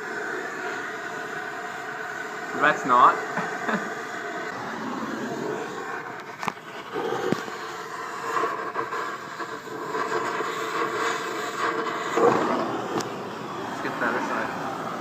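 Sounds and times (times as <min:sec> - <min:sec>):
welding hiss: 0:00.0 - 0:15.0.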